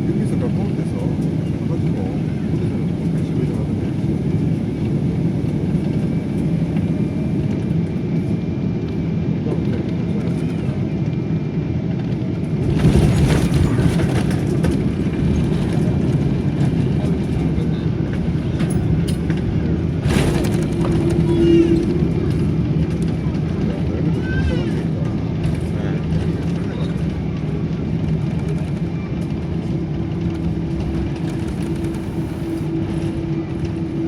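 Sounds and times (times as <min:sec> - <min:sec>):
airliner engine rumble: 0:00.0 - 0:34.0
faint engine whine: 0:00.0 - 0:34.0.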